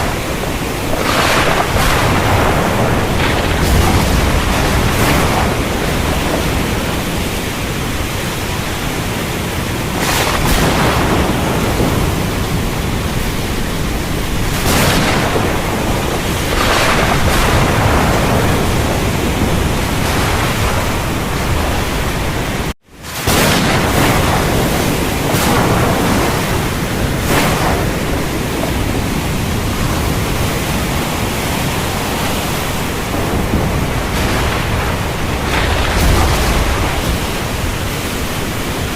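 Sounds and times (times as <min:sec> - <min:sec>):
heavy rain pouring: 0:00.0 - 0:38.9
thunder rumble: 0:00.0 - 0:38.9.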